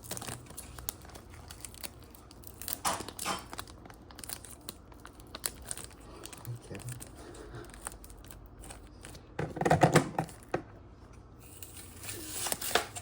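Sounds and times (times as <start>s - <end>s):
packaging crinkling and tearing: 0.0s - 9.4s, 11.3s - 13.0s.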